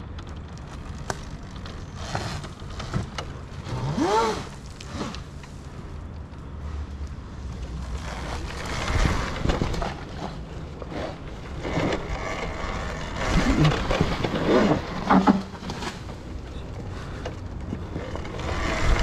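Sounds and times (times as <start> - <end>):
tyres rolling on dirt trail: 0.0 - 19.0.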